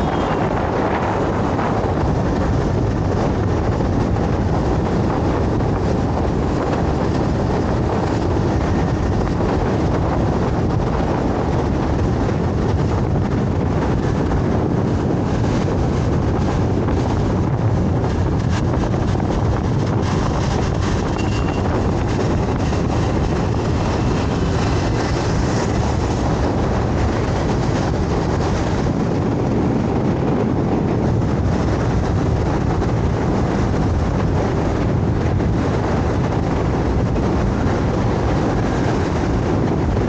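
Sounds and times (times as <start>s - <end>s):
road noise: 0.0s - 40.0s
scooter engine drone: 0.0s - 40.0s
wind buffeting microphone: 0.0s - 40.0s.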